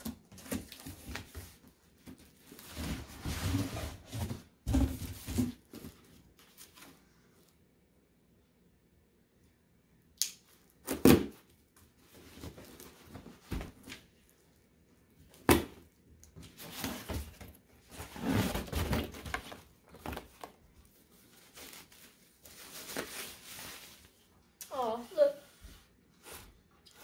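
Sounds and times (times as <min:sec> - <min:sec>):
cardboard and plastic wrap rustling: 0:00.0 - 0:07.5, 0:10.9 - 0:27.0.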